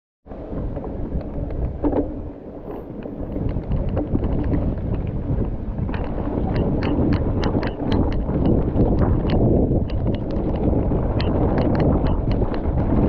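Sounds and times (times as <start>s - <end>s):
low rumble of bike: 0.3s - 13.0s
wind buffeting microphone: 0.3s - 13.0s
bike clicks and rattles: 0.4s - 13.0s.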